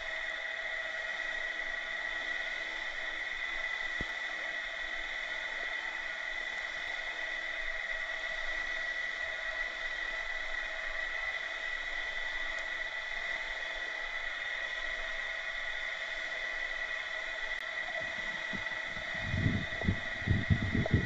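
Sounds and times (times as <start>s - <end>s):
faint high whine: 0.0s - 21.0s
underwater hiss: 0.0s - 21.0s.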